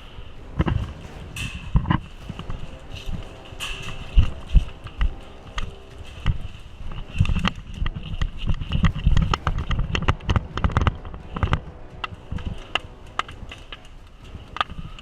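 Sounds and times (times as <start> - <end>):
footsteps: 0.0 - 15.0
gear clicking and knocking: 0.0 - 15.0
low thumping: 0.0 - 15.0.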